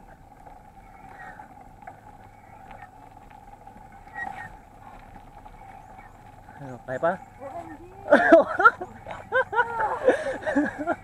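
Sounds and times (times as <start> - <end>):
bike tyres and drivetrain hum: 0.0 - 11.0.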